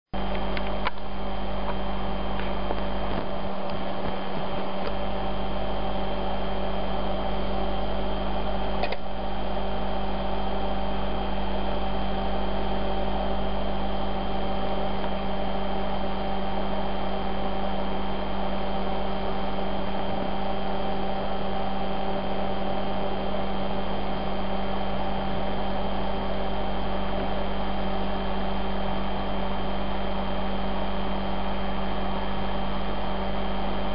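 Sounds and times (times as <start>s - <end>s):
electrical hum: 0.2s - 33.9s.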